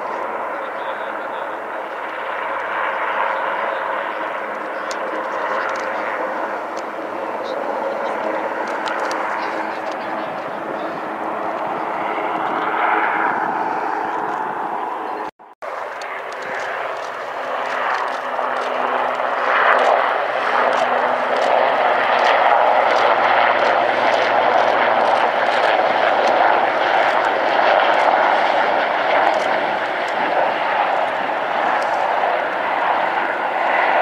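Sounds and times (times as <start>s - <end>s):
helicopter flying low: 0.0s - 34.0s.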